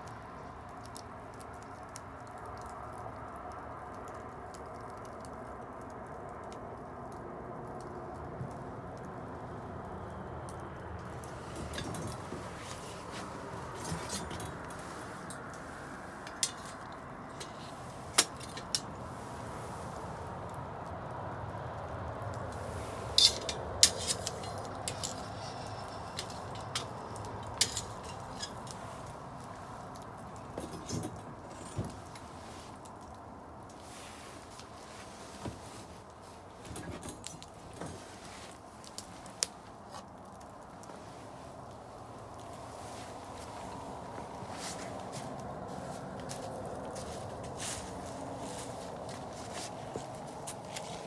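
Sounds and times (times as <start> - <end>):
bonfire crackling and hissing: 0.0 - 51.0.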